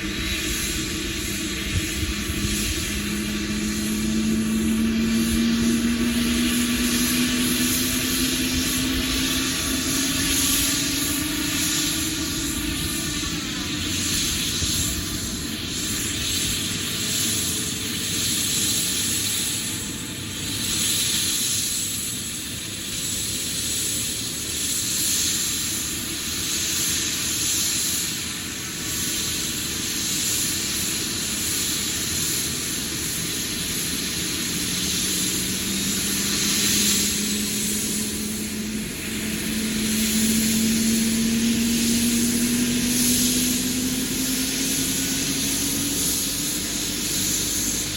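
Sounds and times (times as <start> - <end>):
helicopter engines and rotors: 0.0 - 47.9
turbine whine rising in pitch: 0.0 - 47.9.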